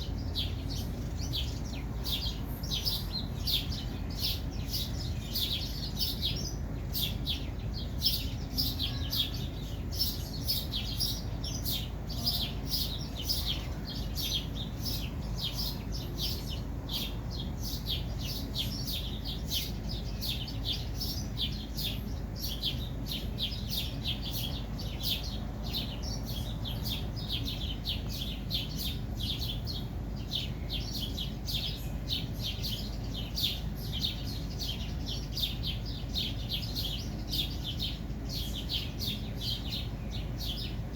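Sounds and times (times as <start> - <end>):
bird chirping rapidly: 0.0 - 40.9
low steady rumble: 0.0 - 40.9.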